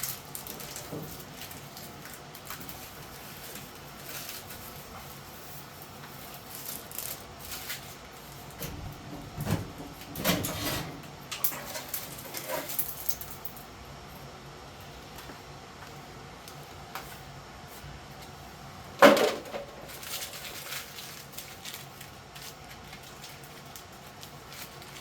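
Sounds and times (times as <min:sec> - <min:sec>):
rustles and clicks of handling: 0:00.0 - 0:18.4, 0:19.0 - 0:25.0.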